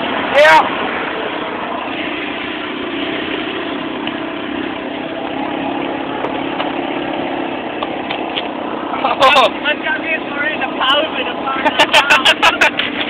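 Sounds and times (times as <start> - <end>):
engine hum and road noise: 0.0 - 13.0.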